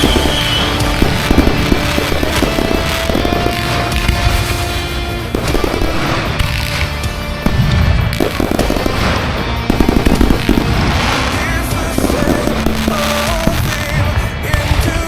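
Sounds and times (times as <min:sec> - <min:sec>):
fireworks crackling: 0:00.0 - 0:15.0
loud music: 0:00.0 - 0:15.0.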